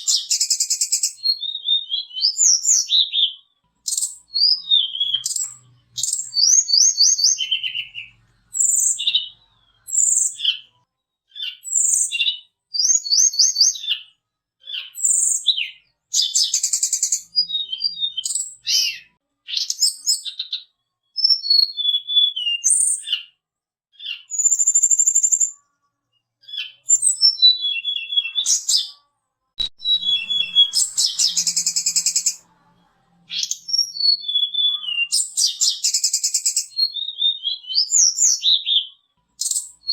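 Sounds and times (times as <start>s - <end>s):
songbird whistling trills: 0.0s - 10.6s, 11.3s - 14.0s, 14.7s - 20.5s, 21.2s - 23.2s, 26.5s - 28.9s, 29.6s - 32.4s, 33.3s - 39.9s.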